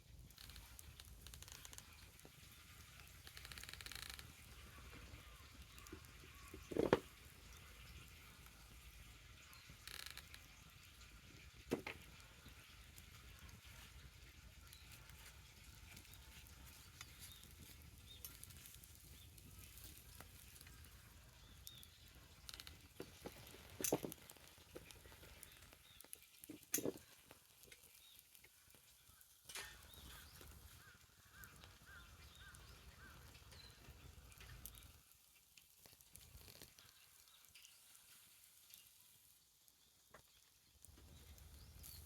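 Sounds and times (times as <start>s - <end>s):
bonfire crackling: 0.0s - 42.0s
fire popping sharply: 0.1s - 35.0s.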